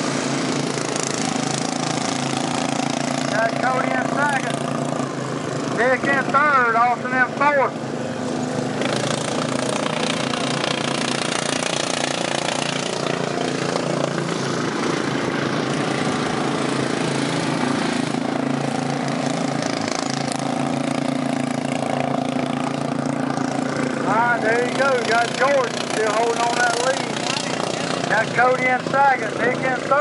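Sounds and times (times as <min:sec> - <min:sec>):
racing lawn mower engines: 0:00.0 - 0:30.0.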